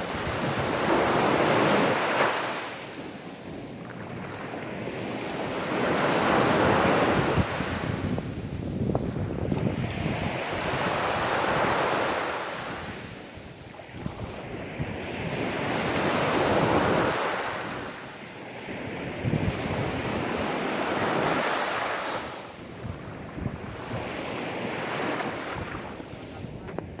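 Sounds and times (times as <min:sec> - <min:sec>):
wind buffeting microphone: 0:00.0 - 0:02.2, 0:02.9 - 0:17.9, 0:18.7 - 0:21.5, 0:22.6 - 0:27.0
sea waves washing on beach: 0:00.0 - 0:27.0.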